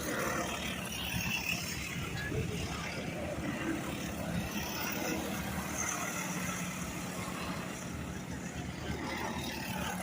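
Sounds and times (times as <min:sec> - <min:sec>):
small racing engines running: 0:00.0 - 0:10.0.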